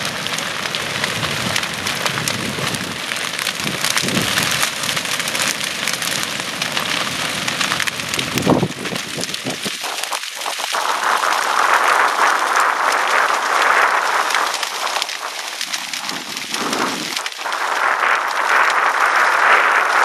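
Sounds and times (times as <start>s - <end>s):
grass fire crackling: 0.0s - 20.0s.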